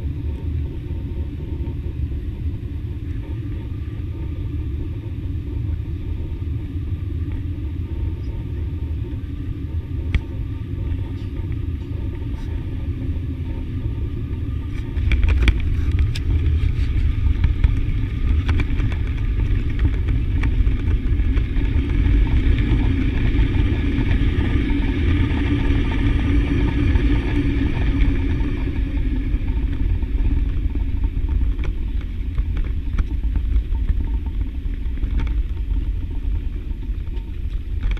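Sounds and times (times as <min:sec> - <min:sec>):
airliner cabin rumble: 0:00.0 - 0:37.9
jet engine rush: 0:00.0 - 0:37.9.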